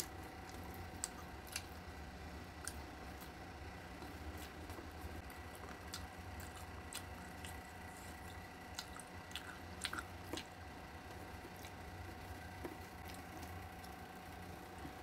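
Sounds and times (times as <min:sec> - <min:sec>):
wet chewing: 0:00.0 - 0:01.9, 0:02.6 - 0:14.1
steady hum: 0:00.0 - 0:15.0.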